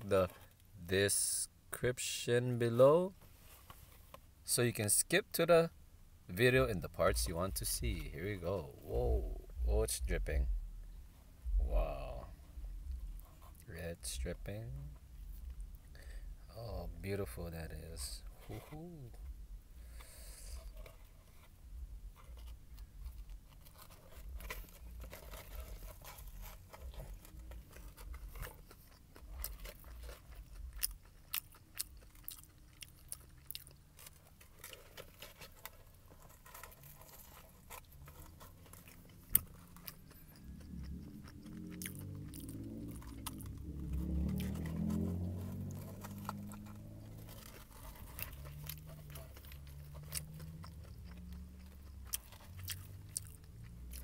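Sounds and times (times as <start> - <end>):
low rumbling handling noise: 6.3 - 31.0, 34.0 - 54.0
crunchy chewing: 6.4 - 54.0.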